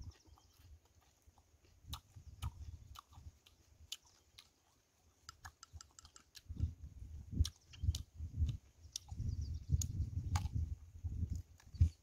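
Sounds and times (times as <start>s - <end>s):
crunchy chewing crackles: 0.0s - 12.0s.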